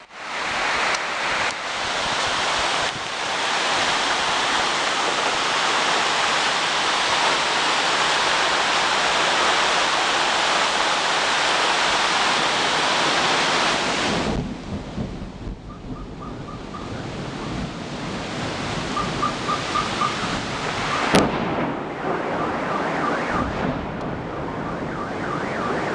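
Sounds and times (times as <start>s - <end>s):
heavy rain pouring: 0.0s - 25.9s.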